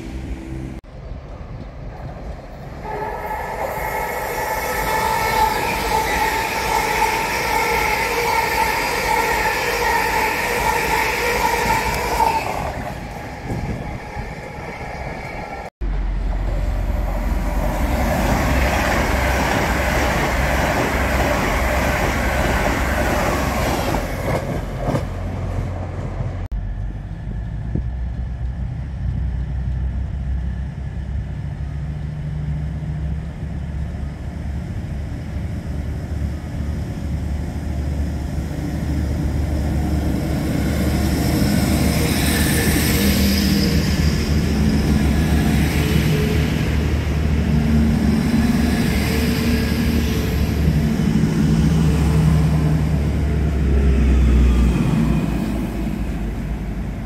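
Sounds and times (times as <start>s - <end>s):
passing train whine: 0.0s - 57.0s
train rumble: 0.0s - 57.0s.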